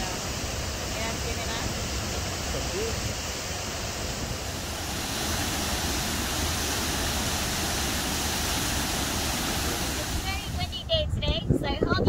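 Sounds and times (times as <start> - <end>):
water spilling over weir: 0.0 - 10.8.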